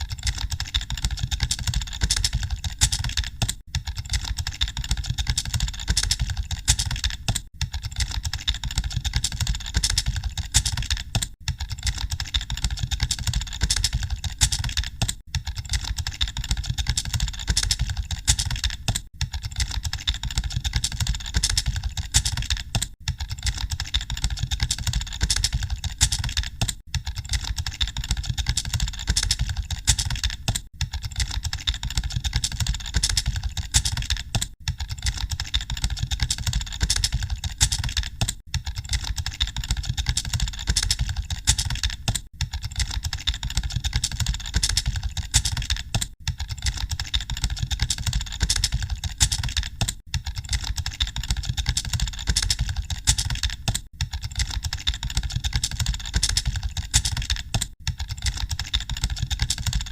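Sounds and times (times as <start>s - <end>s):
fast keyboard typing: 0.0s - 59.9s.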